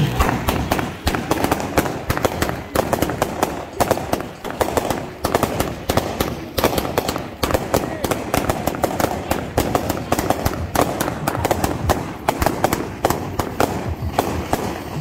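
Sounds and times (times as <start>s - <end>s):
fireworks bangs and crackles: 0.0s - 15.0s
fountain fireworks hissing: 0.0s - 15.0s.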